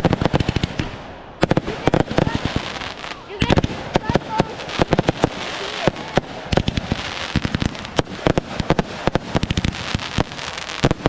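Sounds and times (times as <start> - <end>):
crackling hiss: 0.0 - 11.0
fireworks bangs and pops: 0.0 - 11.0.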